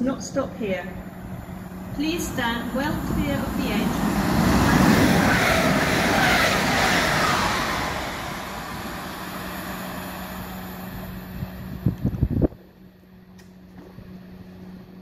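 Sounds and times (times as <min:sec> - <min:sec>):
train passing at speed: 0:00.0 - 0:13.1.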